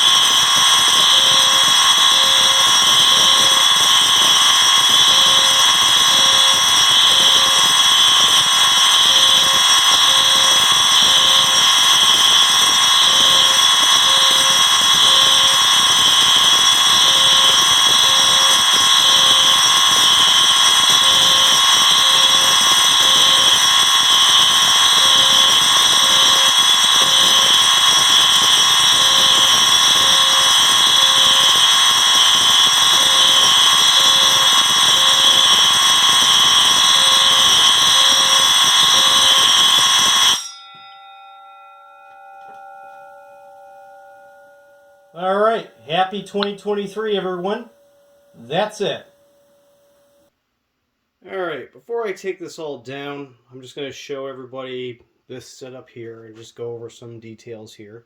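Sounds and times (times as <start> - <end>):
alarm pulsing in triple beats: 0.0 - 50.3
fire alarm horns and bells: 0.0 - 50.3.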